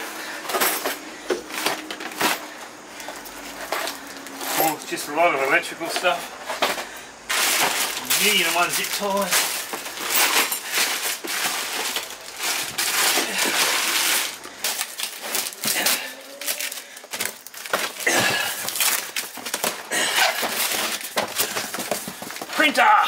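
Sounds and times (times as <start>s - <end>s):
hands rummaging in plastic tote: 0.0s - 23.0s
cardboard flaps rustling and scraping: 1.2s - 22.8s
plastic packaging crinkling: 1.4s - 23.0s.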